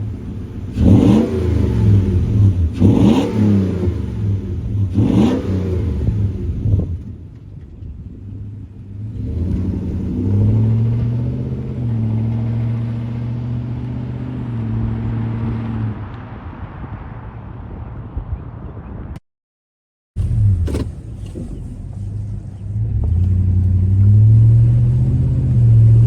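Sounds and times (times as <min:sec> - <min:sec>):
pickup truck engine: 0:00.0 - 0:17.8, 0:20.2 - 0:26.0.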